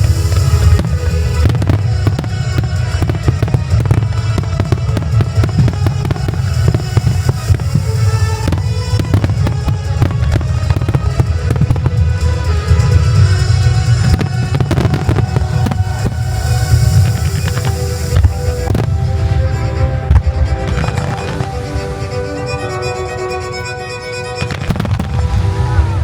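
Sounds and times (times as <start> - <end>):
fireworks bursting: 0.0 - 26.0
heavy low rumble: 0.0 - 26.0
loud music: 0.0 - 26.0.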